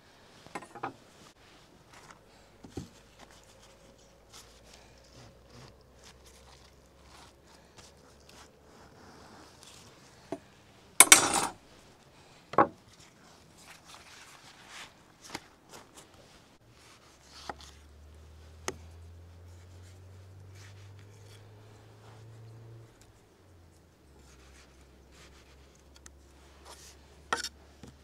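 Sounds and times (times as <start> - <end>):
flatbread rustling: 0.1 - 28.0.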